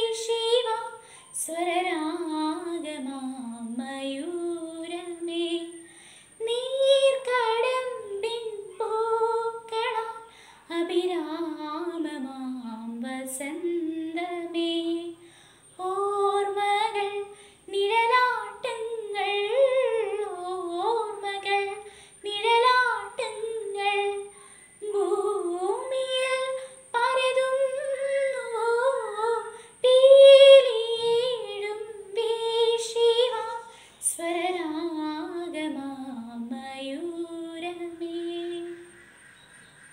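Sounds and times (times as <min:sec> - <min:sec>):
girl singing unaccompanied: 0:00.0 - 0:39.1.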